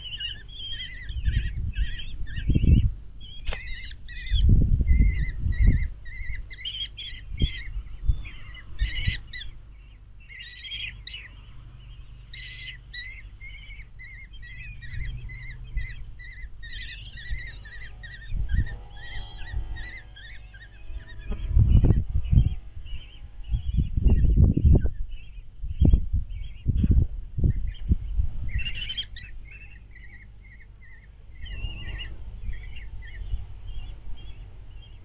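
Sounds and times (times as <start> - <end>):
bird chicks begging calls: 0.0 - 35.0.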